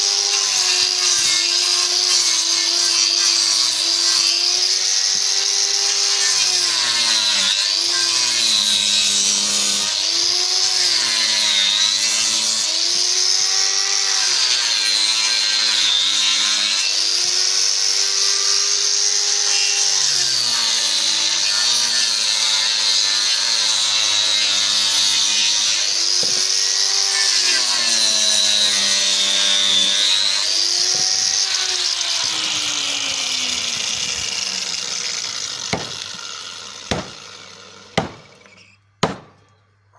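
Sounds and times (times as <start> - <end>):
power tool cutting wood: 0.0 - 39.3.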